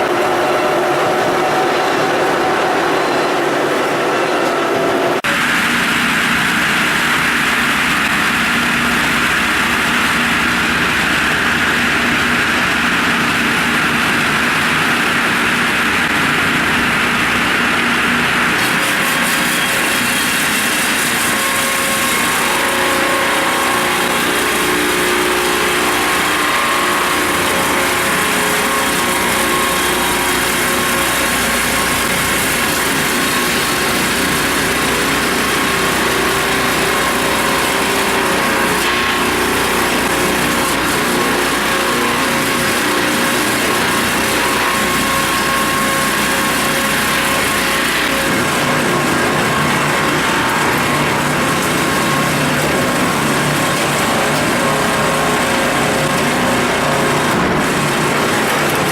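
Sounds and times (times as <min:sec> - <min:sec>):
sawmill machine running: 0:00.0 - 0:58.9
whine of spinning saws: 0:00.0 - 0:58.9.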